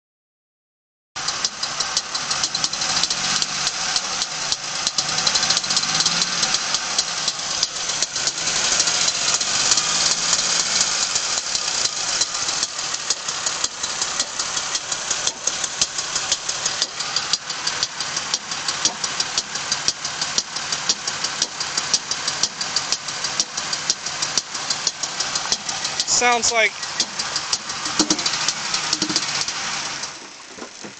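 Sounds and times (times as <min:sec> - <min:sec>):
car engine running: 0:01.2 - 0:30.9
rapid engine knock: 0:01.2 - 0:30.9.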